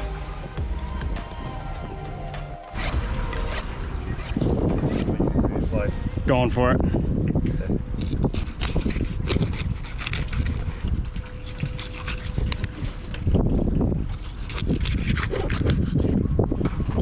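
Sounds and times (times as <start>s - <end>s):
wind buffeting microphone: 0.0s - 17.0s
low rumble of boat and water: 2.9s - 17.0s.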